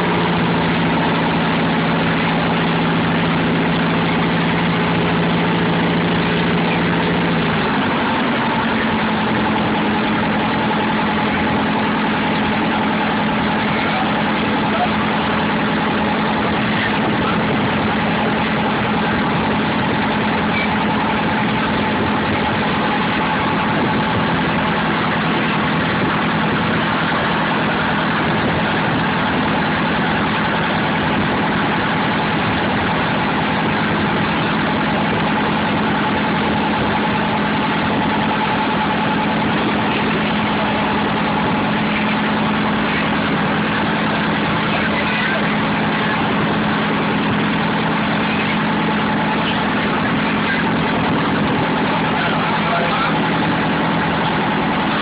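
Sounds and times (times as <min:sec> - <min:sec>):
ferry engine drone: 0:00.0 - 0:55.0.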